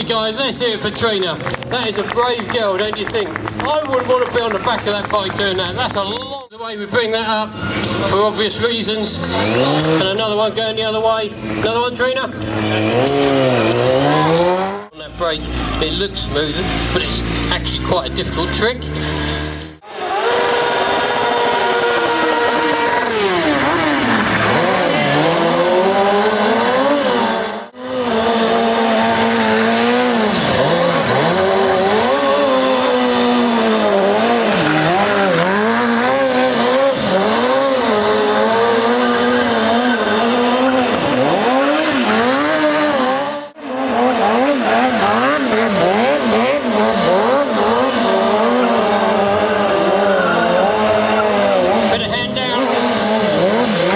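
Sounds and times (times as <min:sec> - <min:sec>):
motorcycle engine revving: 0:07.4 - 0:53.9.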